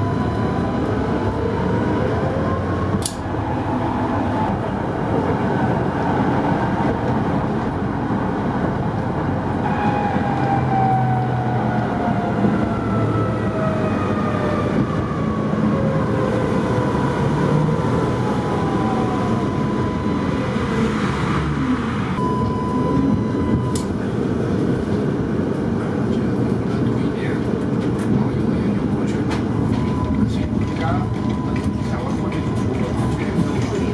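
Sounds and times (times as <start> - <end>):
tram running rumble: 0.0 - 33.9.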